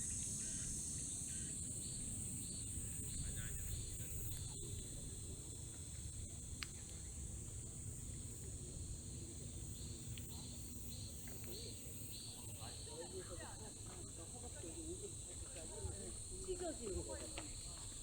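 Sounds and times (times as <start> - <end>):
insects singing in chorus: 0.0 - 18.0.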